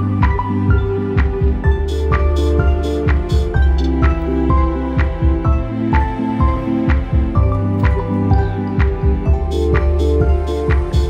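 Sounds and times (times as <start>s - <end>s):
electronic chords over a beat: 0.0s - 11.0s.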